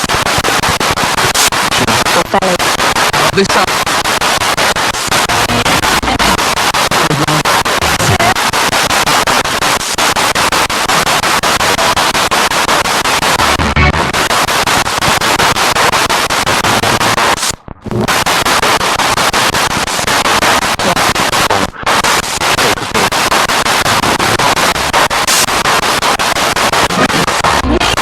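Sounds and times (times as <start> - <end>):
radio static sweeping channels: 0.0 - 28.0.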